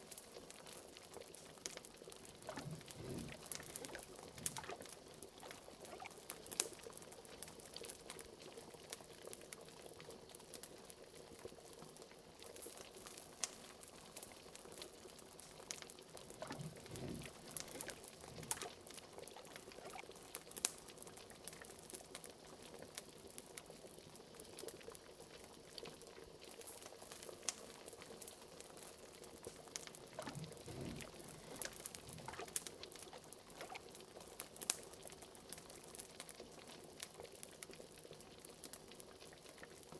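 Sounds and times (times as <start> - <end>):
liquid bubbling at a simmer: 0.0 - 39.9.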